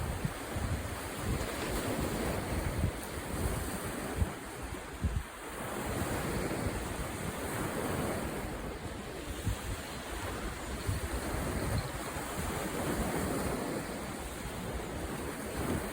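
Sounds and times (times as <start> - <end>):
sea waves: 0.0 - 15.9
wind buffeting microphone: 0.0 - 15.9.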